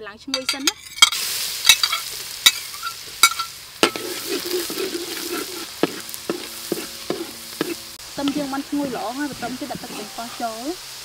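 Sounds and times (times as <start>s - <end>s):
food sizzling in hot oil: 0.2s - 11.0s
metal ladle scraping wok: 0.3s - 11.0s.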